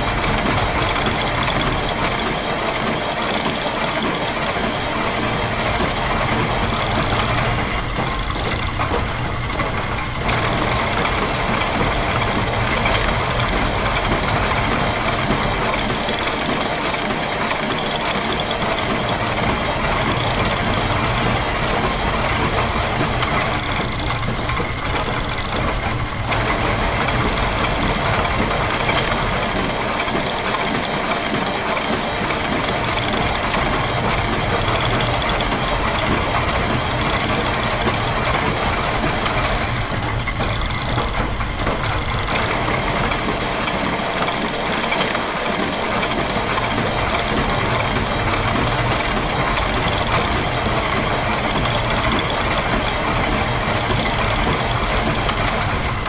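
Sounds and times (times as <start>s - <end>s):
gear clatter: 0.0s - 56.0s
machine ratcheting: 0.0s - 56.0s
sewing machine rhythm: 0.0s - 56.0s.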